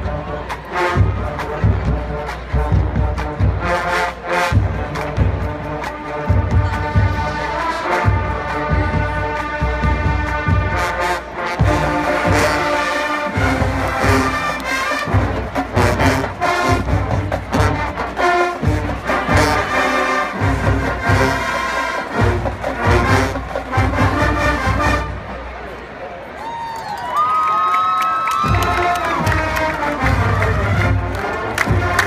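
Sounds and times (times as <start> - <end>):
marching band brass chords: 0.0 - 25.9, 28.3 - 32.0.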